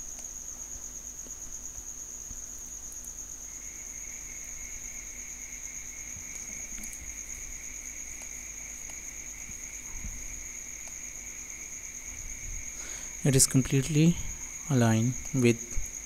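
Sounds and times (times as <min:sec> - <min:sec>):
faint low hum: 0:00.0 - 0:16.0
high insect trill: 0:00.0 - 0:16.0
lower insect trill: 0:00.0 - 0:16.0.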